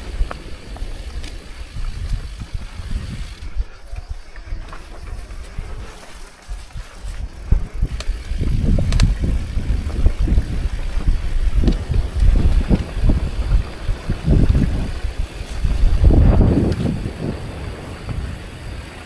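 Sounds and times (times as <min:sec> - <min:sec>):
bike rattling and clicking: 0:00.0 - 0:19.0
tyres on dirt: 0:00.0 - 0:19.0
wind buffeting microphone: 0:00.0 - 0:19.0.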